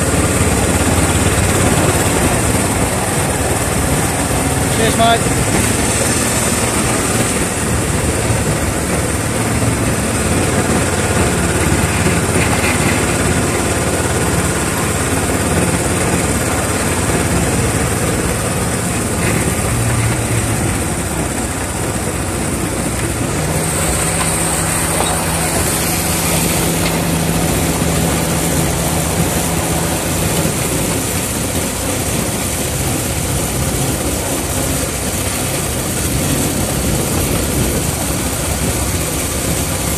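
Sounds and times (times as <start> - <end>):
miniature locomotive running: 0.0 - 39.9.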